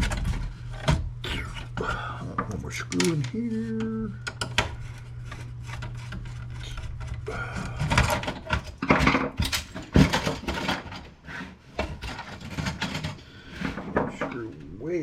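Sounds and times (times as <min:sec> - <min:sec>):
plastic printer parts rattling: 0:00.0 - 0:14.8
steady low hum: 0:00.0 - 0:15.0.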